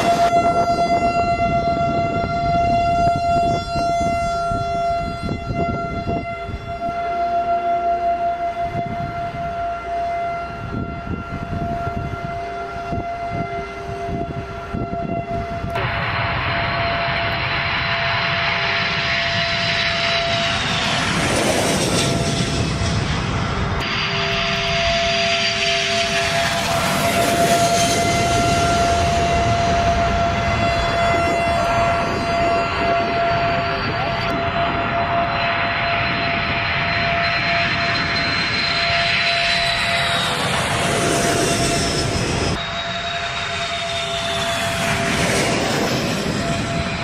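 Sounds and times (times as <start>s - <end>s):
alert siren: 0.0s - 47.0s
jet engines running: 0.0s - 47.0s.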